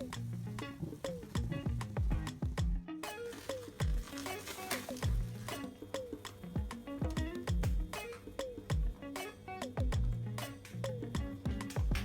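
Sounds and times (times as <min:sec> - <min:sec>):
instrumental music with beat: 0:00.0 - 0:12.0.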